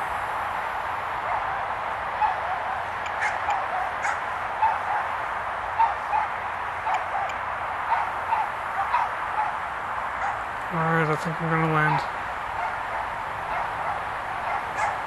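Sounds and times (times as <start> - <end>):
steady background hiss: 0.0 - 15.0
dogs barking: 1.2 - 10.6, 11.7 - 15.0.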